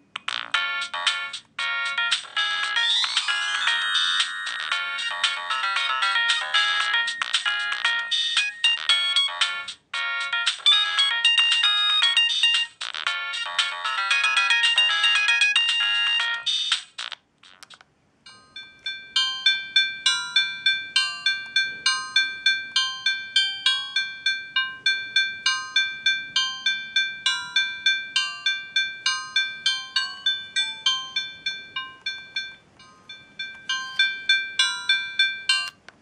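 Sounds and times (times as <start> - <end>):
phone ringtone tunes: 0.3 - 16.9, 18.3 - 35.8.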